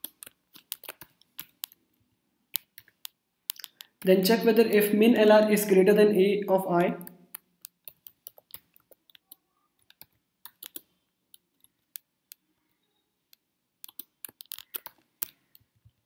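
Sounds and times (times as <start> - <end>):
keyboard typing: 0.0 - 4.8, 6.5 - 16.0.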